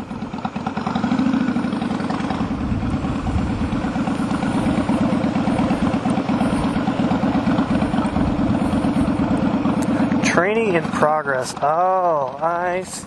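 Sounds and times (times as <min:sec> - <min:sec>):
motorcycle engine running at low speed: 0:00.0 - 0:13.0.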